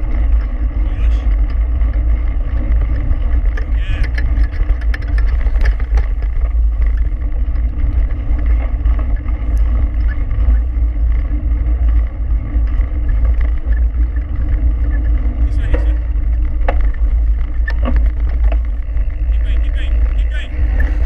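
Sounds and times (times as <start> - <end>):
bike clicks and rattles: 0.0 - 21.0
wind buffeting microphone: 0.0 - 21.0.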